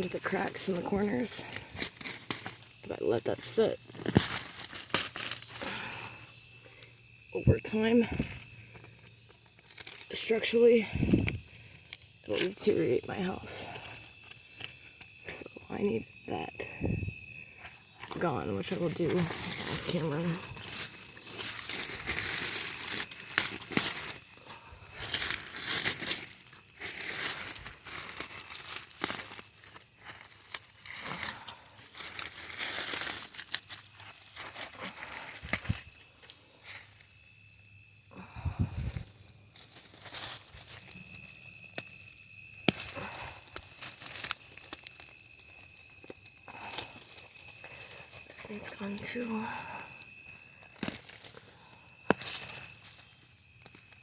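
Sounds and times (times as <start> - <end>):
insect chirping: 0.0 - 54.0
weeds rustling as pulled: 0.0 - 54.0.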